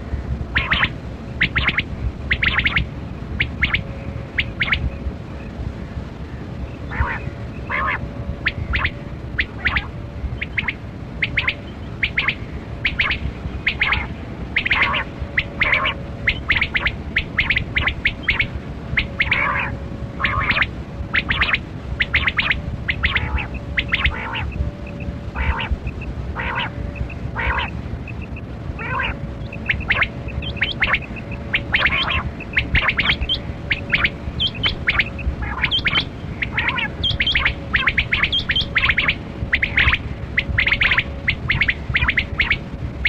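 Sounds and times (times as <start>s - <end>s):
quail calling: 0.0s - 5.0s, 6.8s - 42.7s
faint steady hum: 0.0s - 43.0s.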